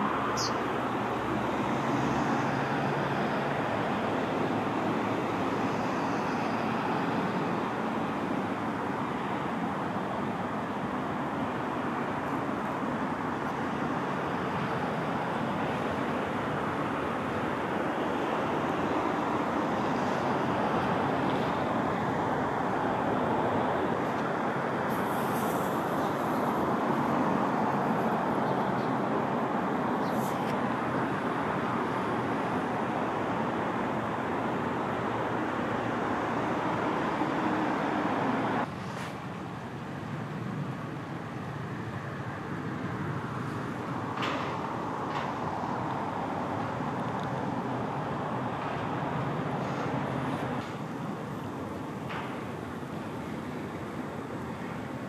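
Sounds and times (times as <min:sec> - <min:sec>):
rushing outdoor background noise: 0:00.0 - 0:55.0.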